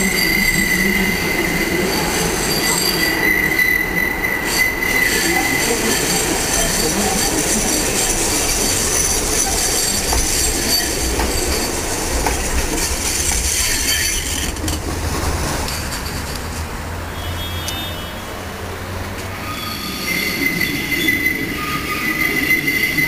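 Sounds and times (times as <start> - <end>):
tram rumbling on rails: 0.0 - 23.0
tram wheels squealing: 0.0 - 23.0.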